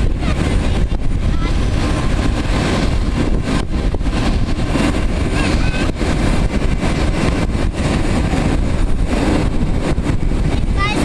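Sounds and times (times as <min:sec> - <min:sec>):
jet engine noise: 0:00.0 - 0:11.0
wind buffeting microphone: 0:00.0 - 0:11.0.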